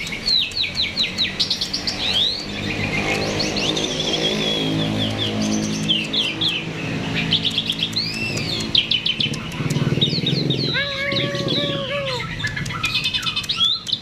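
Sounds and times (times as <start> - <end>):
starling singing: 0.0 - 14.0.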